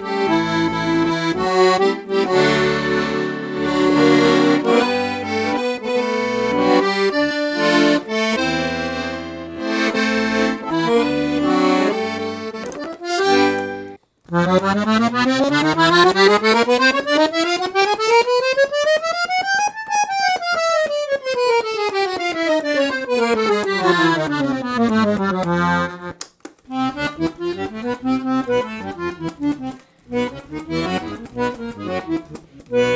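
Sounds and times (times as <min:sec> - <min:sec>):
accordion playing: 0:00.0 - 0:32.9.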